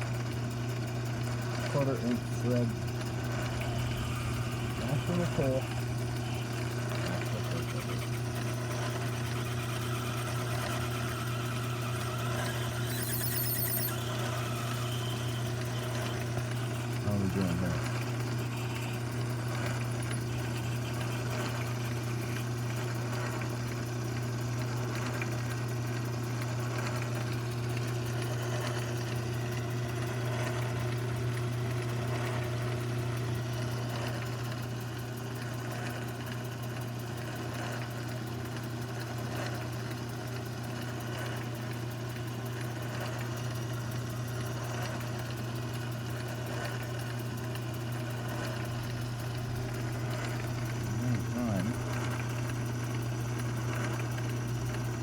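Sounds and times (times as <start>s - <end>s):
lathe motor hum: 0.0s - 55.0s.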